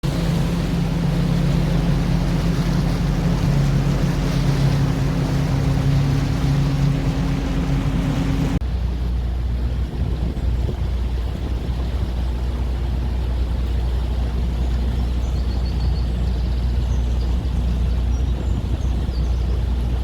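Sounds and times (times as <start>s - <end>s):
deep dull rumble: 0.0s - 20.0s
low hum: 0.0s - 20.0s.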